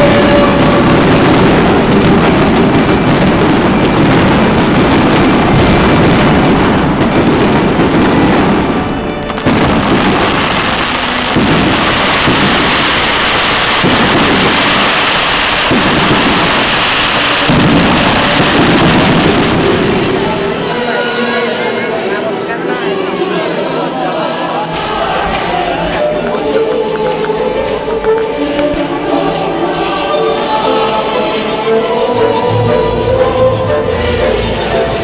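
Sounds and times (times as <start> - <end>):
fireworks bangs and crackling: 0.0 - 22.9, 24.7 - 35.0.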